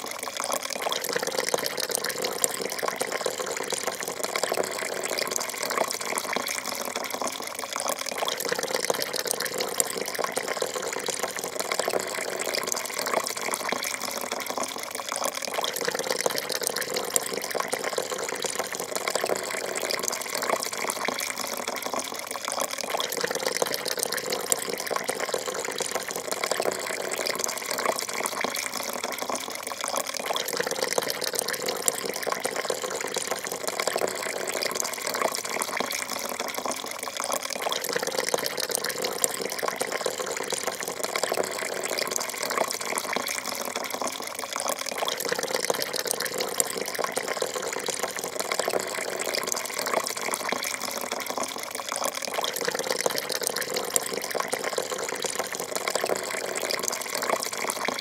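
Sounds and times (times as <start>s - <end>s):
coffee pouring into a cup: 0.0s - 58.0s.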